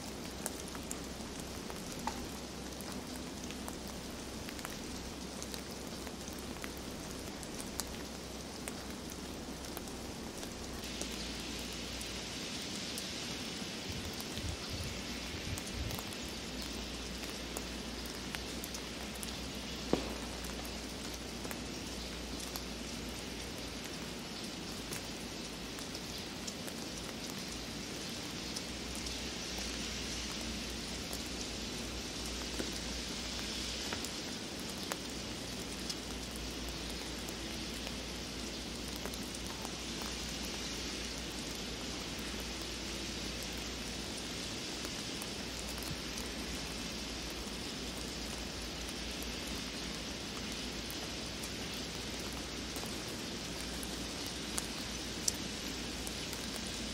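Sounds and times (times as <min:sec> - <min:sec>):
hiss of falling snow: 0:00.0 - 0:56.9.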